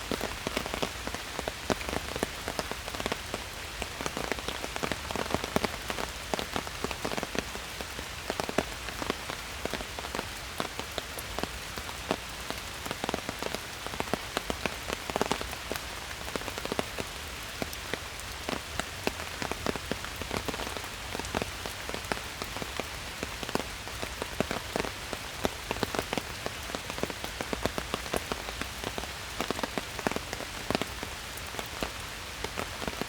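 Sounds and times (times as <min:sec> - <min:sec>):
raindrops pattering close by: 0:00.0 - 0:33.0
steady rain hiss: 0:00.0 - 0:33.0.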